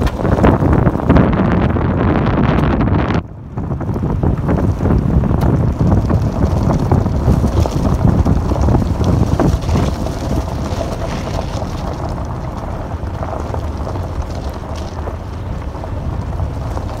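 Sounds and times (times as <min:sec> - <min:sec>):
tyres crunching on gravel: 0:00.0 - 0:17.0
wind buffeting microphone: 0:00.0 - 0:17.0.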